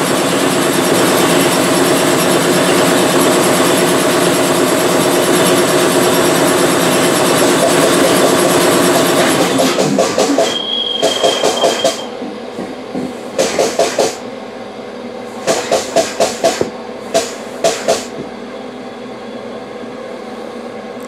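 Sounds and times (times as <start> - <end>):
cabinet running noise: 0.0 - 14.2, 15.4 - 18.4.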